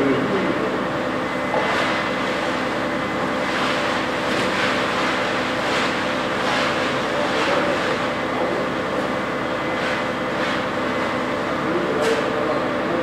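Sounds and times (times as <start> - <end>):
pump engine running: 0.0 - 13.0.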